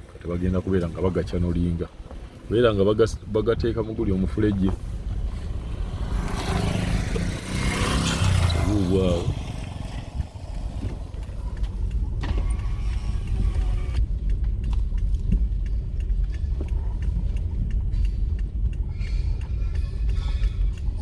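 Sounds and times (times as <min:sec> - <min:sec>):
car rumble from inside: 0:00.0 - 0:21.0.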